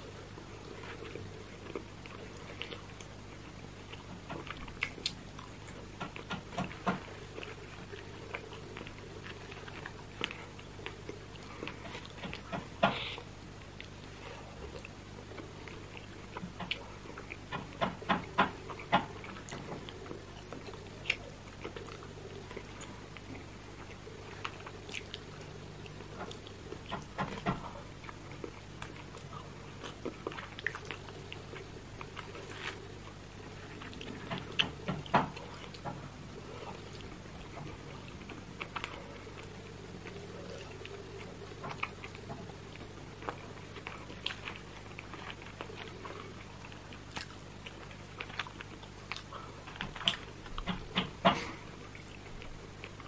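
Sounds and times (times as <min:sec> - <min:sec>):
low steady hum: 0:00.0 - 0:53.0
person chewing with wet smacks: 0:00.0 - 0:53.0.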